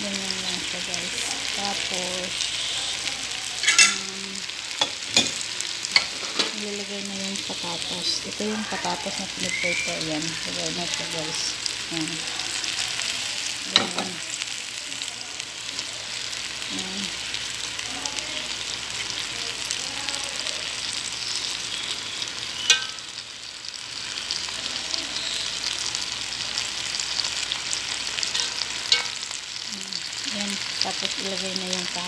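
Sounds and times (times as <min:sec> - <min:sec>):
food sizzling in oil: 0:00.0 - 0:32.0.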